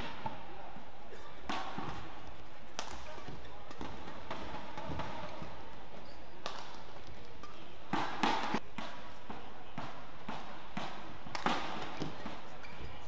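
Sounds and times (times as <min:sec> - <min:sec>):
rackets striking shuttlecock: 0:01.4 - 0:05.8, 0:06.4 - 0:12.9.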